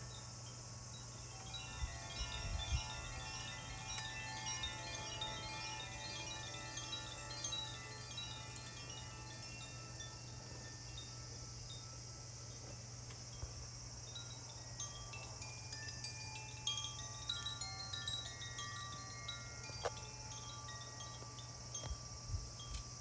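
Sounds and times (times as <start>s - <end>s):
chimes ringing: 1.3s - 11.2s, 14.2s - 22.8s.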